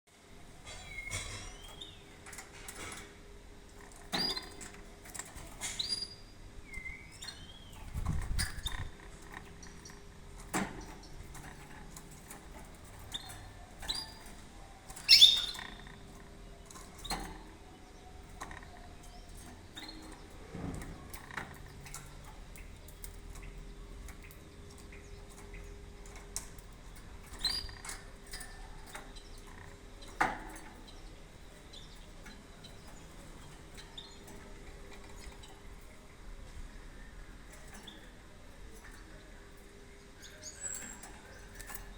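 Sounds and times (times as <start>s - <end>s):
canary chirping: 0.6s - 2.8s, 3.7s - 20.4s, 21.0s - 36.1s, 40.0s - 41.9s.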